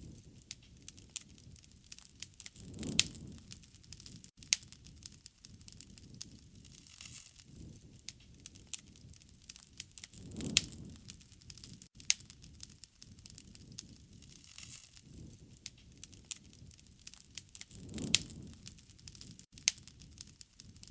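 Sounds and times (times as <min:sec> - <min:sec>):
low rush of burning: 0:00.0 - 0:20.9
wood fire crackling: 0:00.0 - 0:20.9.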